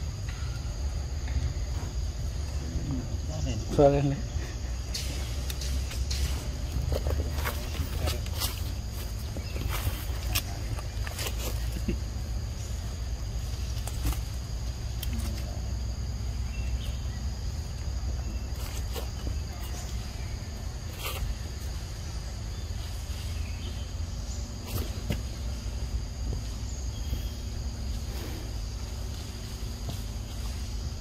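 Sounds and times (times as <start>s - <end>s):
high insect drone: 0.0s - 31.0s
rustles: 1.2s - 31.0s.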